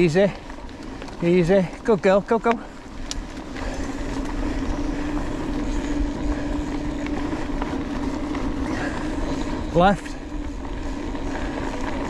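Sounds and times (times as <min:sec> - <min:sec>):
bike tyres humming on gravel: 0:00.0 - 0:12.0.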